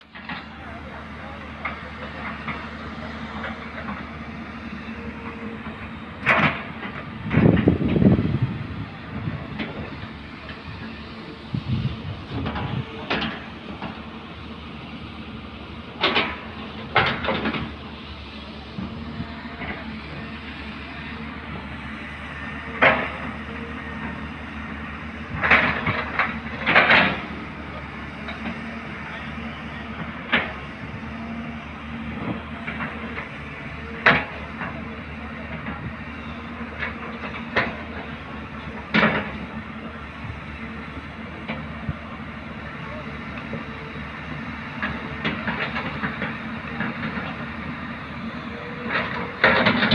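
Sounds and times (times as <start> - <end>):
excavator running: 0.0 - 49.9.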